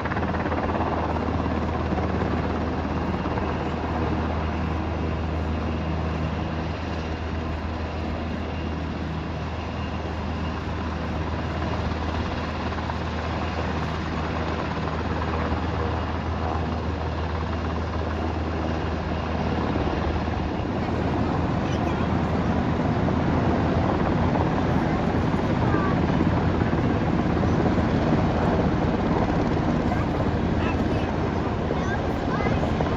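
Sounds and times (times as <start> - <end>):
helicopter rotor hum: 0.0 - 32.9.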